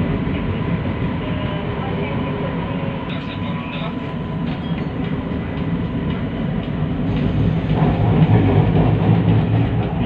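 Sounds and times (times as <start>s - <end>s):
metro train rumble inside car: 0.0s - 10.0s.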